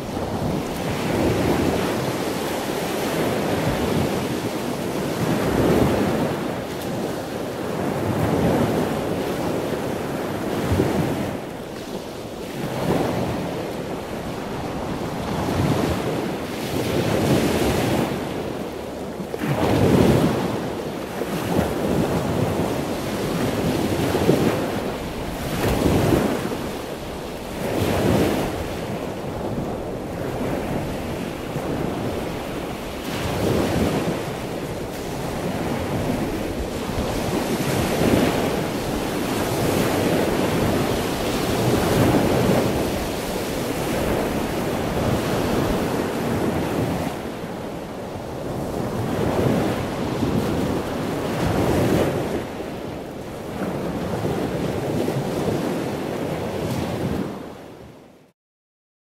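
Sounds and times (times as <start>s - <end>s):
ocean waves breaking: 0.0s - 57.9s
wind rumbling on microphone: 0.0s - 58.2s.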